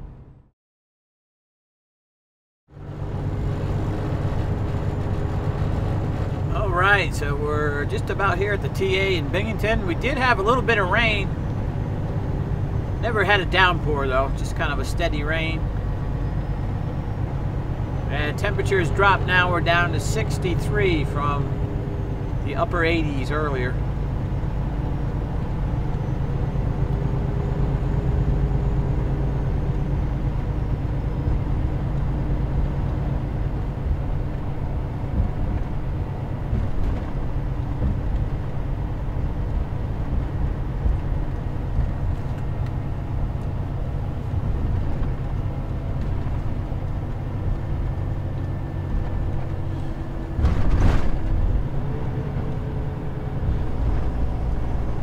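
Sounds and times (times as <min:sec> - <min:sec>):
truck engine low rumble: 0:00.0 - 0:00.5, 0:02.7 - 0:55.0.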